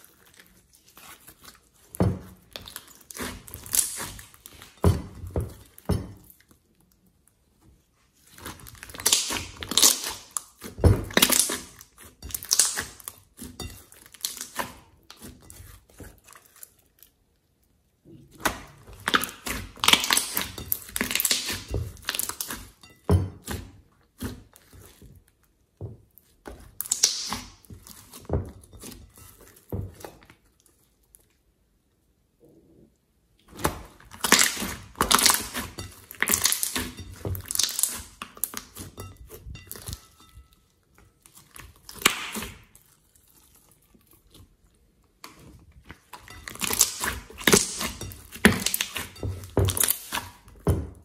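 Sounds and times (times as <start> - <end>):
slime squelching and popping: 0.0 - 6.4, 8.2 - 17.2, 18.0 - 25.4, 26.0 - 30.4, 33.4 - 51.0.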